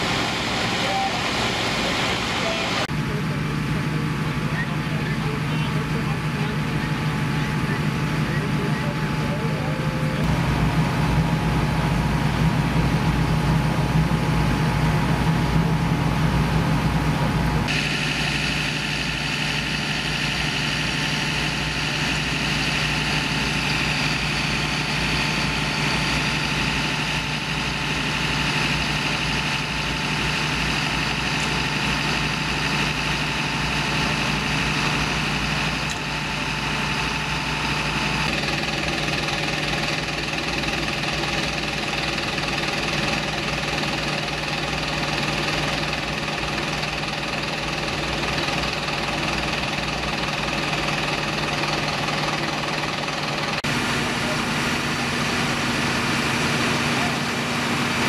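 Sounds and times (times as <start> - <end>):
fire engine idling: 0.0 - 58.0.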